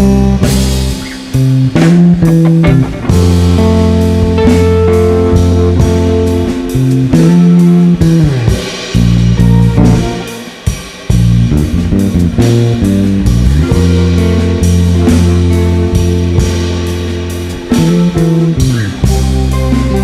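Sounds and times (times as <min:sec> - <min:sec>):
bass guitar low notes: 0:00.0 - 0:20.0
plucked guitar lines: 0:00.0 - 0:20.0
steady drum beat: 0:00.0 - 0:20.0.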